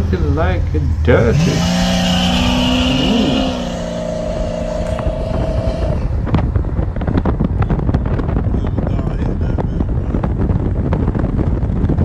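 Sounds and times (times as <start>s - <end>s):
car engine and road noise: 0.0s - 12.0s
wind buffeting microphone: 0.0s - 12.0s.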